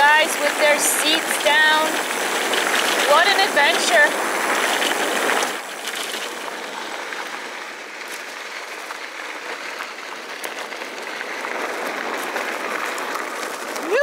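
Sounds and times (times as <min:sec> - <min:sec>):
bike tyres rolling on dirt: 0:00.0 - 0:14.0.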